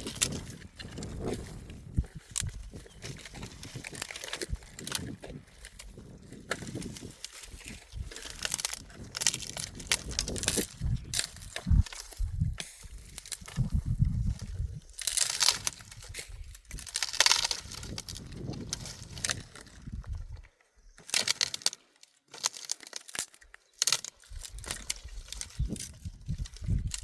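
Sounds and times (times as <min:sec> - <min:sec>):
dry grass crunching and crackling: 0:00.0 - 0:27.0.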